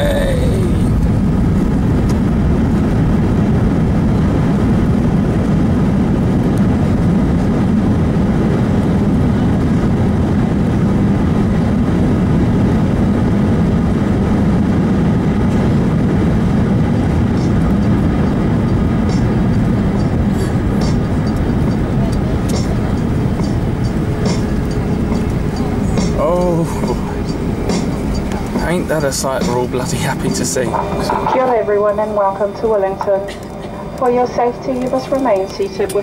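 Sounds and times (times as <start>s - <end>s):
airliner cabin low rumble: 0.0s - 36.0s.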